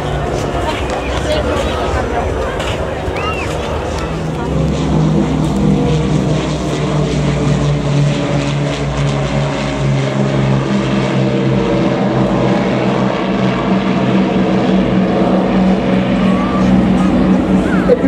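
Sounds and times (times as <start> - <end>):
propeller engines droning: 0.0 - 18.0.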